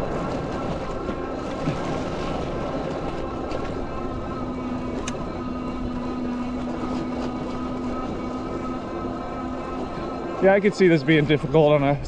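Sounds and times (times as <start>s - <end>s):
electric motor hum and whine: 0.0s - 12.0s.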